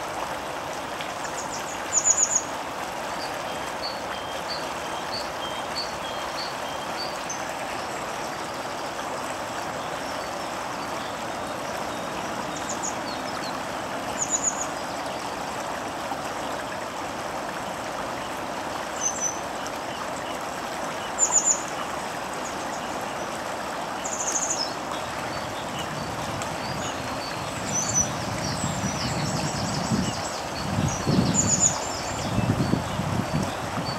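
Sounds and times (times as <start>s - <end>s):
stream water rushing over rocks: 0.0s - 33.9s.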